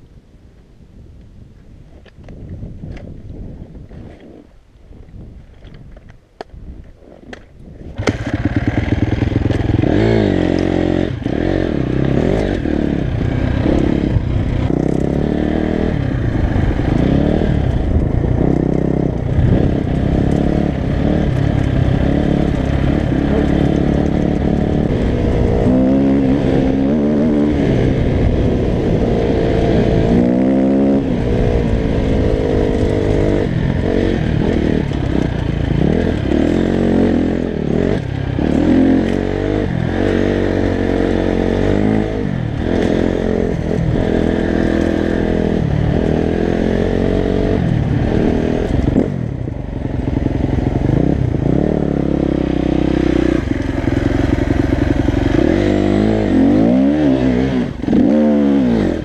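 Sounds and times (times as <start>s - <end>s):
motorcycle engine revving: 7.9s - 59.0s.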